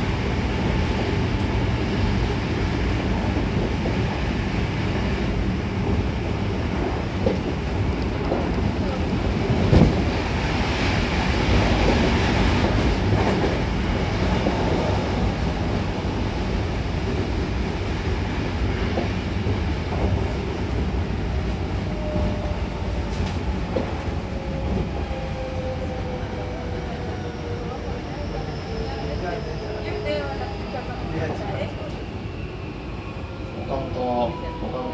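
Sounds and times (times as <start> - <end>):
train rumble inside car: 0.0 - 32.0.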